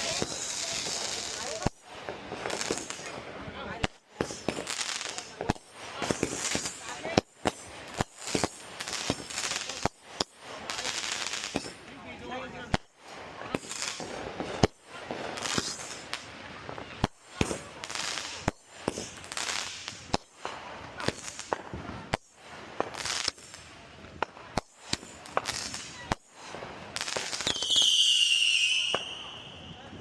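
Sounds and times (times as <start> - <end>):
fireworks bangs: 0.0 - 30.0
fireworks hissing: 0.0 - 30.0.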